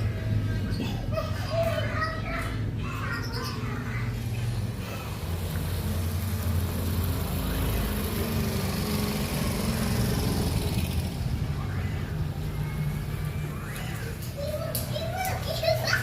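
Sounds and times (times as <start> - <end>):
engine idling with low hum: 0.0 - 14.3.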